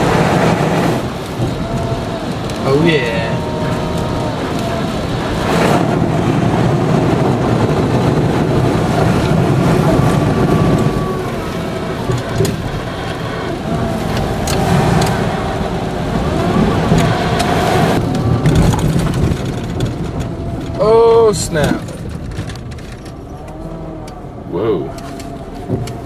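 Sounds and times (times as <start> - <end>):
heavy rain: 0.0 - 26.0
tyres rushing through water: 0.0 - 26.0.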